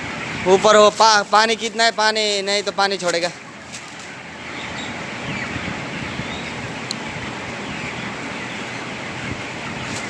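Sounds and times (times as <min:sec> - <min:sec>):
chickens peeping and chirping: 0:00.0 - 0:10.0.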